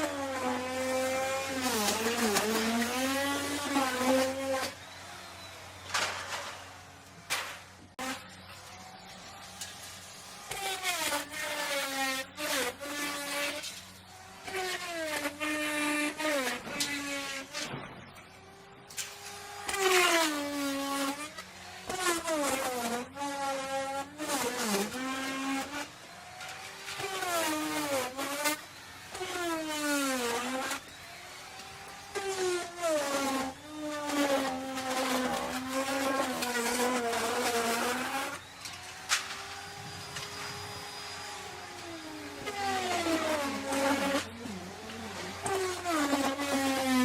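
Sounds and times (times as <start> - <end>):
electric router cutting wood: 0.0 - 47.0.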